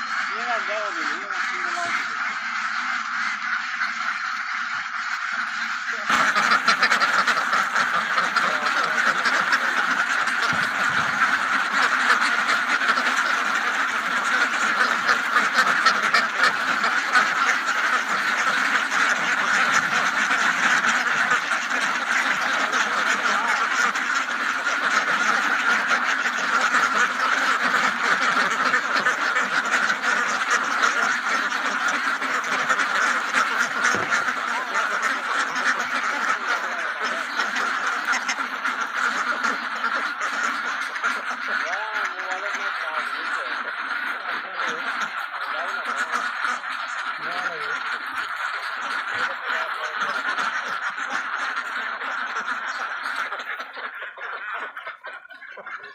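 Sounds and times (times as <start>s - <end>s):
ducks quacking: 0.0s - 55.9s.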